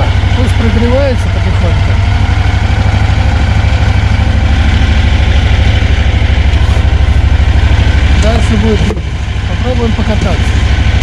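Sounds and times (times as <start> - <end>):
air-cooled engine idling: 0.0 - 11.0.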